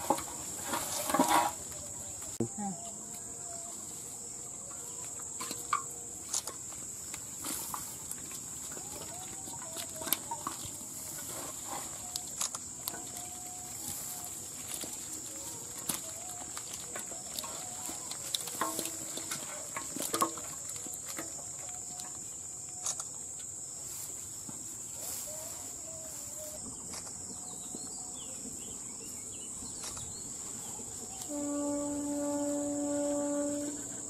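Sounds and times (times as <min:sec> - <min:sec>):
crickets droning: 0:00.0 - 0:34.0.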